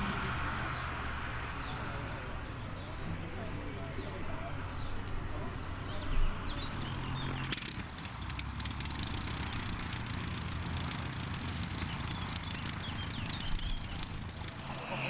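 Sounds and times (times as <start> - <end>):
light aircraft engine idling: 0.0 - 15.0.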